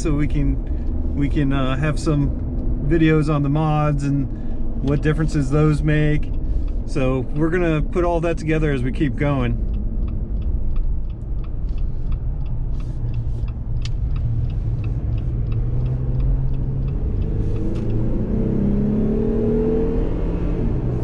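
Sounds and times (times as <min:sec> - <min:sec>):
car engine accelerating: 0:00.0 - 0:21.0
tire and road drone: 0:00.0 - 0:21.0
light rapid ticking: 0:00.1 - 0:18.0.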